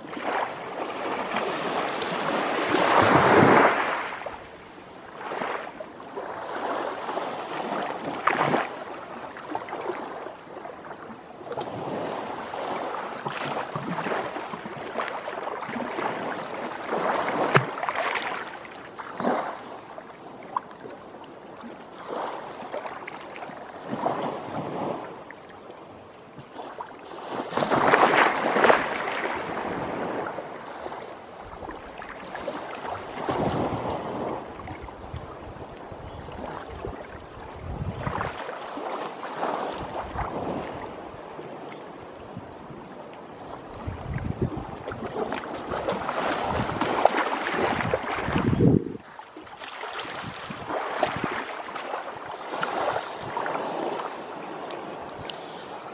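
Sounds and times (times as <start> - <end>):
small waves lapping on shore: 0.0 - 55.9.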